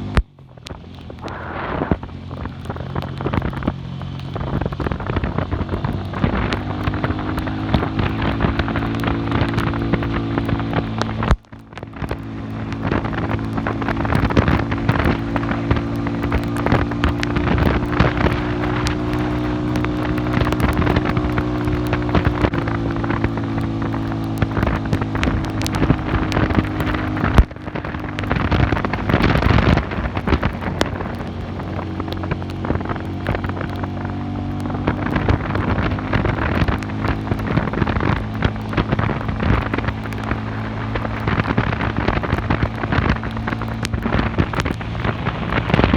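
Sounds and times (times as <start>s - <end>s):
motorcycle engine running: 0.0s - 45.9s
wind noise on microphone: 0.0s - 45.9s.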